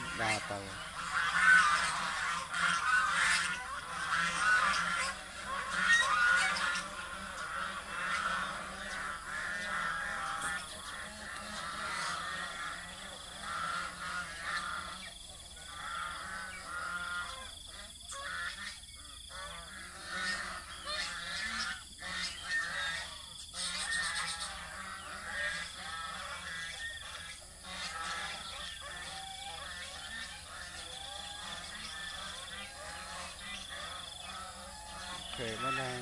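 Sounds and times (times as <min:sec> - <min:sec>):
geese honking: 0:00.0 - 0:36.0.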